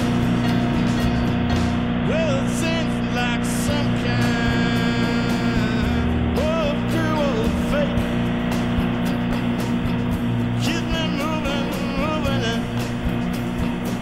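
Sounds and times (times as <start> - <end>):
lead guitar bending notes: 0.0 - 14.0
rock band instrumental: 0.0 - 14.0.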